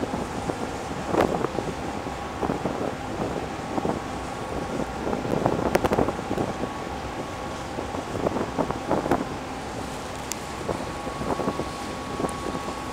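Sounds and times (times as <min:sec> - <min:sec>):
ferry engines droning: 0:00.0 - 0:12.9
wind buffeting microphone: 0:00.0 - 0:12.9.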